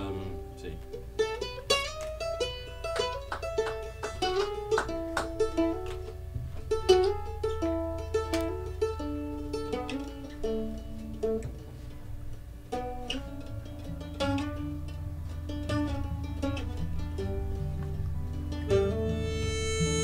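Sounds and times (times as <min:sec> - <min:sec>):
acoustic plucked strings melody: 0:00.0 - 0:20.0.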